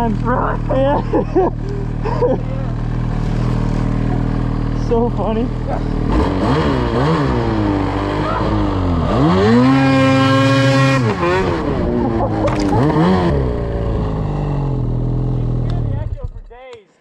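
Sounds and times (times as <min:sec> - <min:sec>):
snowmobile engine revving: 0:00.0 - 0:16.5.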